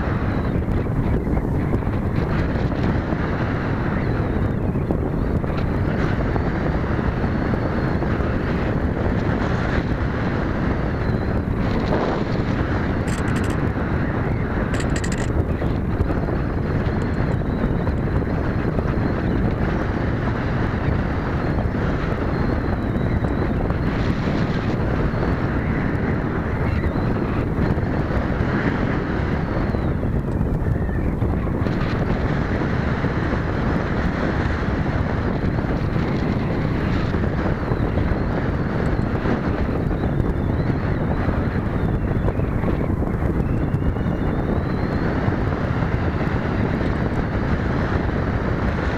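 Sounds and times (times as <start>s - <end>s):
faint high engine whine: 0.0s - 48.9s
wind buffeting microphone: 0.0s - 48.9s.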